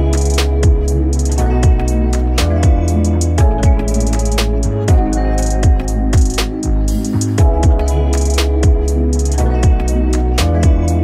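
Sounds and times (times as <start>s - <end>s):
electronic music with kick drums: 0.0s - 11.0s.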